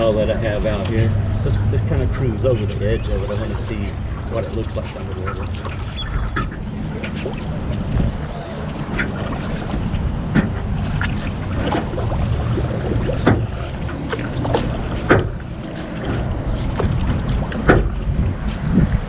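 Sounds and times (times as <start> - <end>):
low steady rumble: 0.0 - 15.5
paddle strokes in water: 0.4 - 19.0.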